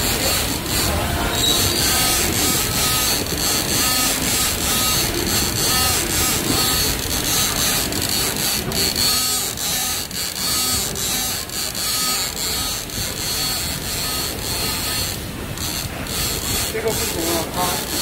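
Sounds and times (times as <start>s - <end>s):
motors whining: 0.0s - 18.0s.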